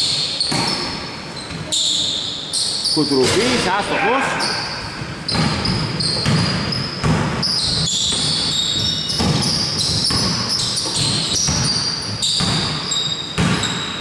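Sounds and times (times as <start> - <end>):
basketball bouncing on court: 0.0 - 1.6, 4.4 - 14.0
shoe squeaks on floor: 0.0 - 3.5, 4.2 - 14.0.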